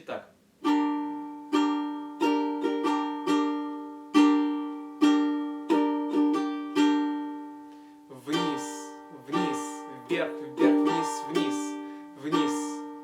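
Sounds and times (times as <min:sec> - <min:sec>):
ukulele strumming: 0:00.6 - 0:13.0.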